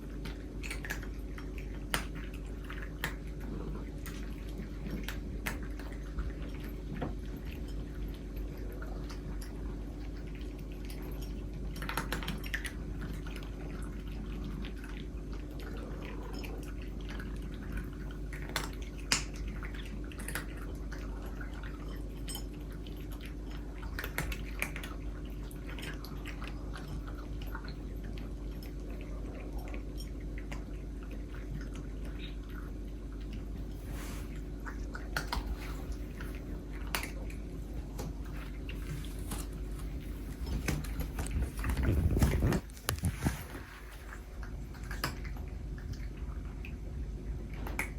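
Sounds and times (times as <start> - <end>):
cats crunching dry food: 0.0 - 45.9
steady low hum: 0.0 - 47.9.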